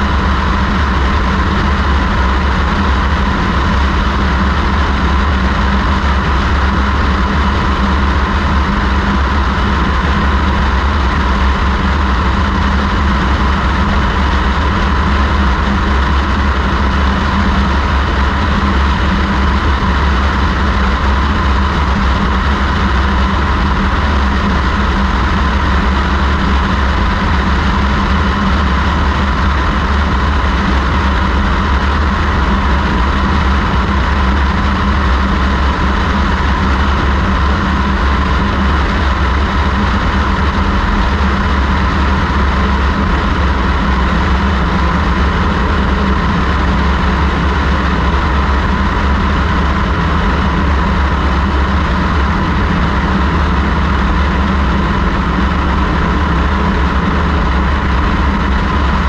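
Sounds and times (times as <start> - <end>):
airplane engine and propeller drone: 0.0 - 59.0.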